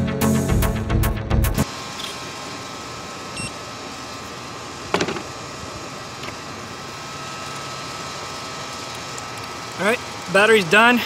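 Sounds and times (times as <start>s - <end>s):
steady background hum: 1.6s - 11.0s.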